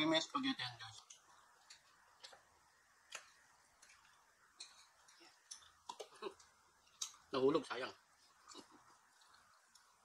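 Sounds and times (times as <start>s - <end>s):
soft eating mouth sounds: 1.0s - 7.3s, 8.0s - 10.0s.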